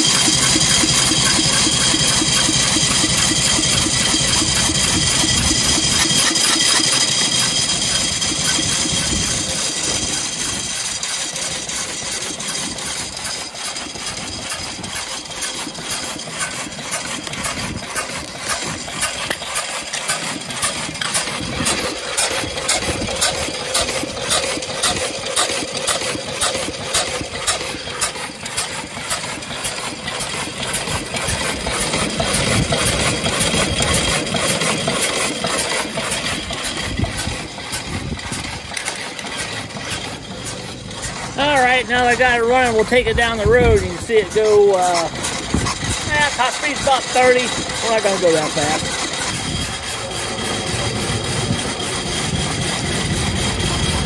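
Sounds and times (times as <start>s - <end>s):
single-cylinder engine idling: 0.0s - 54.0s.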